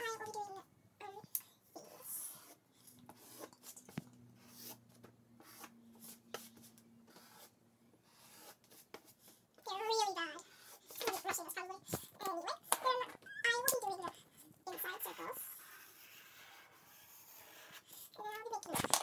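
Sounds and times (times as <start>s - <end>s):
marker scratching on paper: 0.0s - 19.0s.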